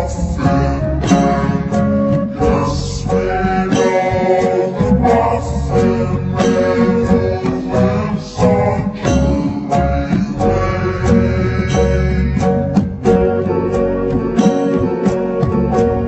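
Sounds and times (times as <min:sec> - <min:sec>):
person singing: 0:00.0 - 0:16.0
plucked guitar: 0:00.0 - 0:16.0.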